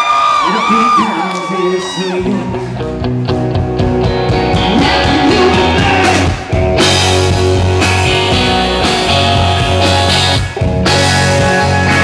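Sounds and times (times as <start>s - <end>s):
drums: 1.8s - 12.0s
electric guitar: 1.8s - 12.0s
bass guitar: 2.0s - 12.0s.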